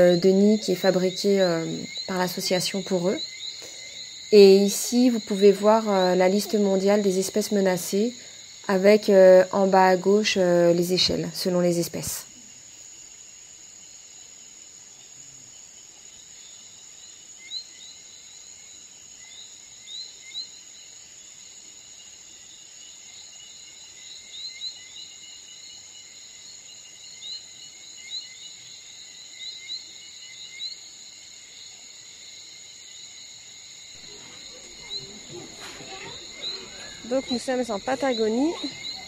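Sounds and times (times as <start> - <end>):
insect chirring: 0.0 - 39.0.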